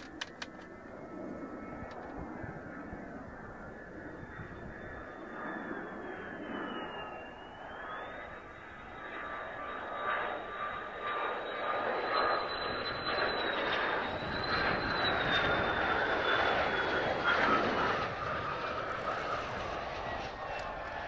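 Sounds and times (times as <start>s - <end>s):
jet turbine whine: 0.0s - 21.0s.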